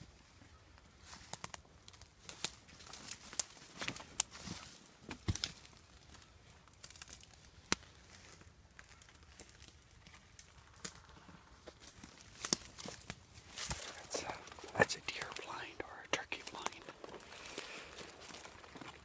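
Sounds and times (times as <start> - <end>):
footsteps through dry leaves and twigs: 0.9 - 15.6, 16.4 - 19.0.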